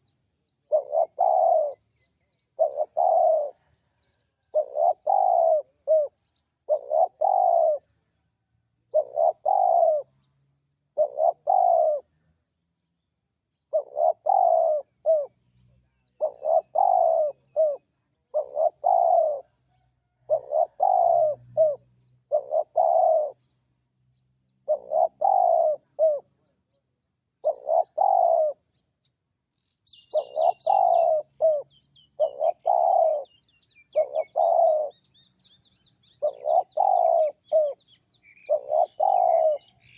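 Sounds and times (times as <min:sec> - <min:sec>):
dove cooing: 0:00.0 - 0:08.0, 0:08.9 - 0:12.3, 0:13.7 - 0:23.6, 0:24.6 - 0:26.6, 0:27.3 - 0:28.6, 0:29.9 - 0:39.9
small birds chirping: 0:00.0 - 0:39.9.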